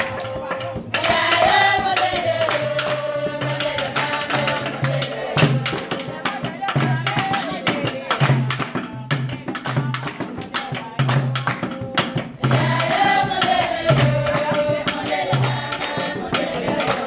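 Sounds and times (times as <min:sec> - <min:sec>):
women singing in chorus: 0:00.0 - 0:17.0
fast hand clapping: 0:01.0 - 0:17.0.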